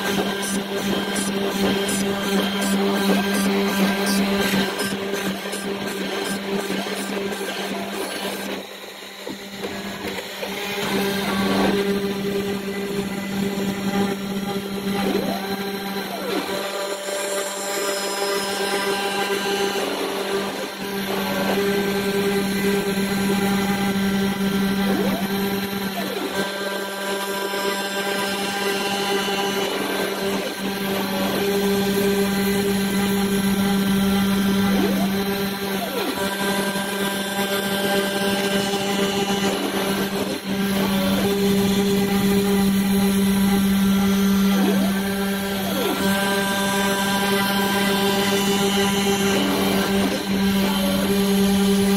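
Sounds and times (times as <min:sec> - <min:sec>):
mill spindle whine and cutting: 0:00.0 - 0:51.9.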